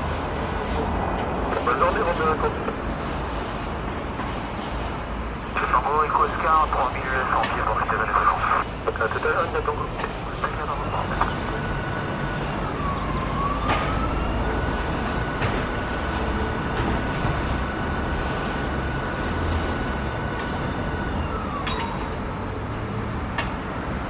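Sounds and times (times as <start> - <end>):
distant jet engines whining: 0.0 - 24.0.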